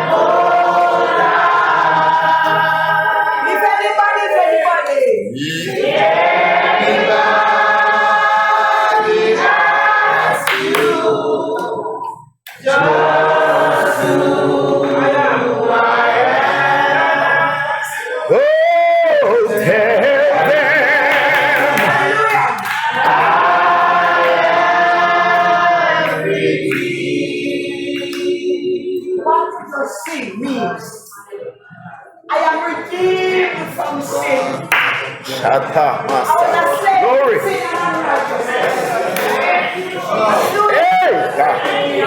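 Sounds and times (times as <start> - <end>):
congregation singing gospel chorus: 0.0 - 42.0.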